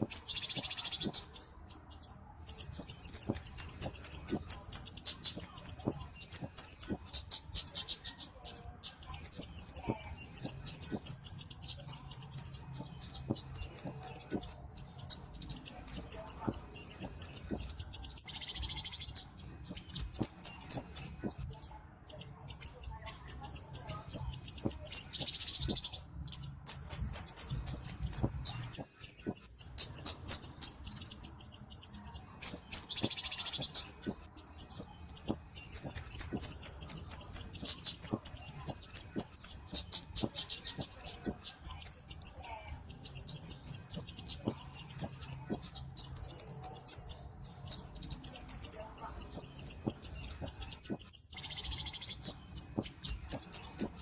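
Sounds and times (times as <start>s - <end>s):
bird twittering trills: 0.0s - 54.0s.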